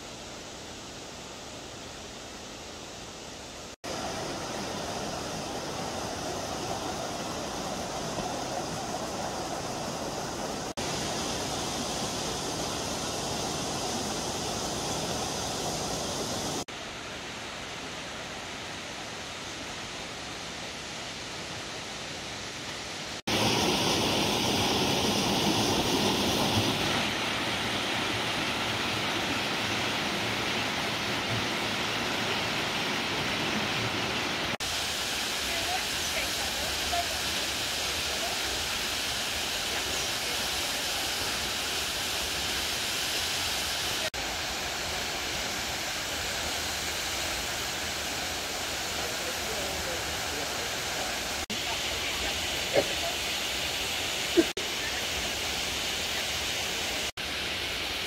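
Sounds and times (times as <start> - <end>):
waterfall rushing: 2.6 - 58.0.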